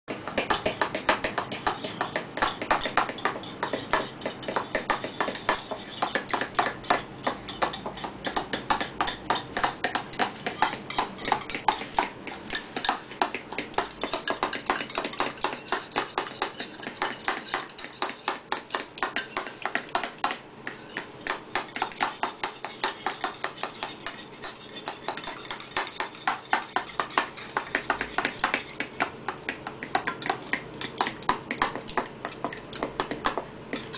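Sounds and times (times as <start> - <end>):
whisk beating eggs in bowl: 0.1 - 33.9.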